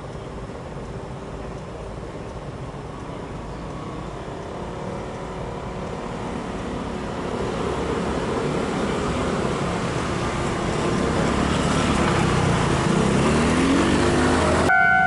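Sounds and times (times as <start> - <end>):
rumble of vehicles: 0.0 - 15.0.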